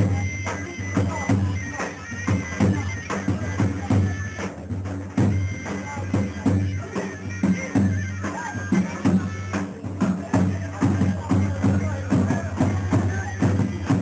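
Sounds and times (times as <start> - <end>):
heavy drum beating: 0.0 - 14.0
reedy wind instrument melody: 0.0 - 14.0.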